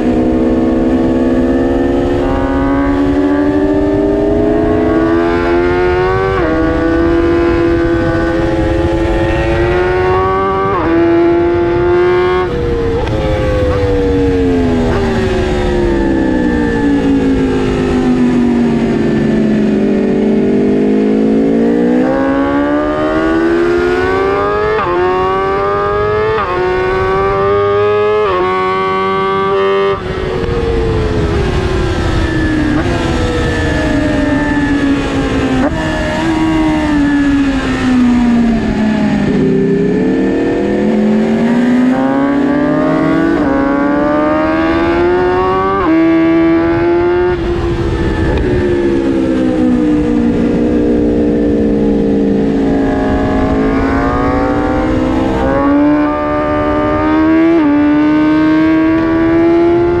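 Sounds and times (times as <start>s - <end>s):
motorcycle engine revving: 0.0s - 60.0s
wind rush: 0.0s - 60.0s.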